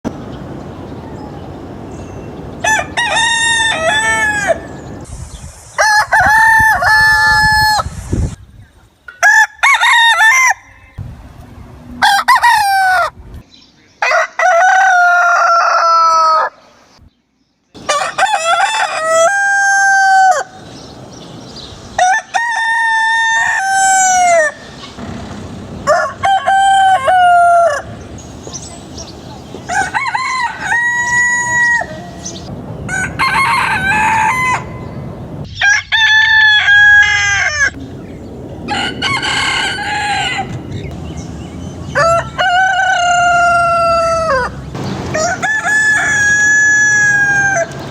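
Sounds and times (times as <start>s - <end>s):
roosters crowing: 0.9s - 5.1s, 5.7s - 8.0s, 9.2s - 11.0s, 11.9s - 13.2s, 14.0s - 16.7s, 17.8s - 21.0s, 21.6s - 28.4s, 29.5s - 37.8s, 38.6s - 47.9s.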